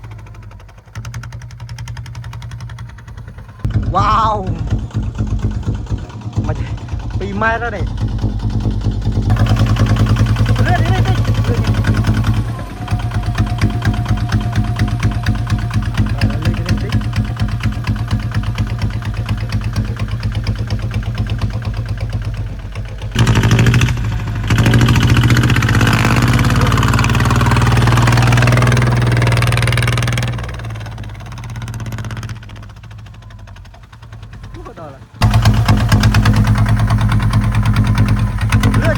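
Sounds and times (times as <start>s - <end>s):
diesel engine pulsing: 0.0s - 38.9s.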